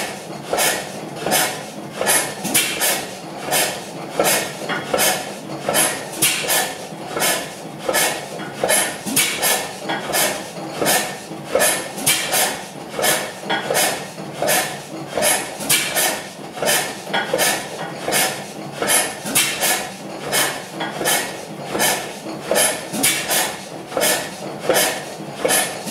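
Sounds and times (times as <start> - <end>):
stationary engine valve gear clanking: 0.1 - 25.9.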